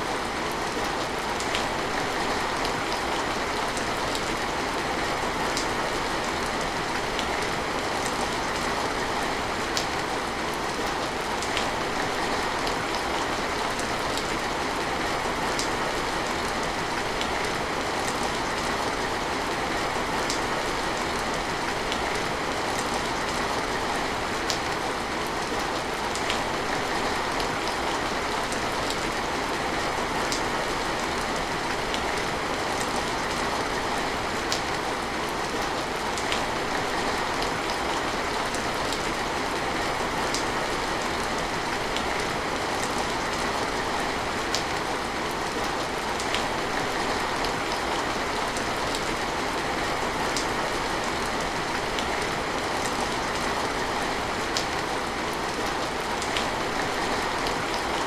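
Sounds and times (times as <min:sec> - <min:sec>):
steady rain hiss: 0:00.0 - 0:58.0
raindrops ticking on a surface: 0:00.1 - 0:58.0.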